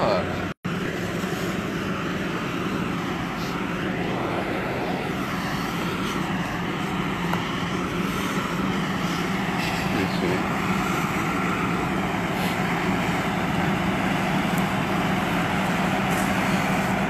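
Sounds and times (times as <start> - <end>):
fire engine pump running: 0.0 - 17.0.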